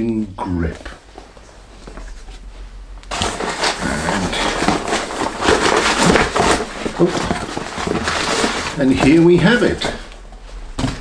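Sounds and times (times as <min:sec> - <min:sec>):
cardboard packaging rustling: 0:01.1 - 0:11.0.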